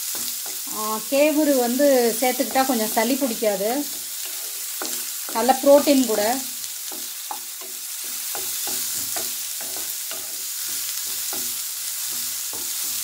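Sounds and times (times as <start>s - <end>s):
onions sizzling in hot oil: 0.0s - 13.0s
spatula scraping pan: 2.2s - 13.0s.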